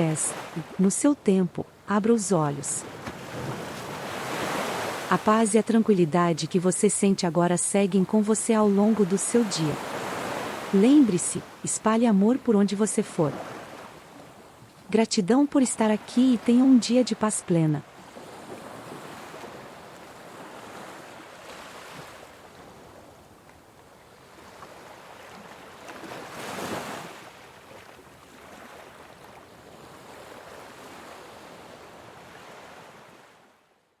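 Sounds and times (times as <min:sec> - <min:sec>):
ocean waves washing onto shore: 0:00.0 - 0:33.6.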